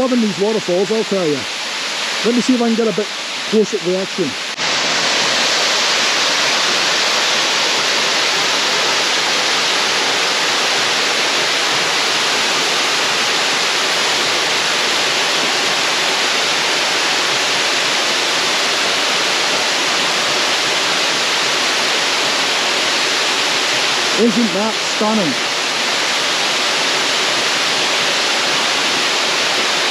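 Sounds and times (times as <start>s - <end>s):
waterfall pouring into pool: 0.0s - 29.9s.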